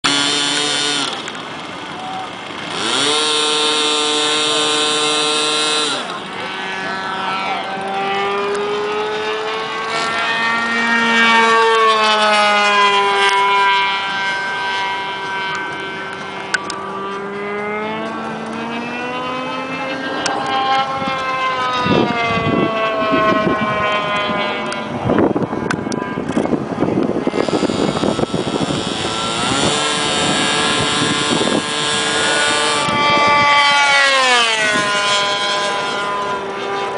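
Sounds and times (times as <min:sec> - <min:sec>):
model plane engine buzzing: 0:00.0 - 0:36.9.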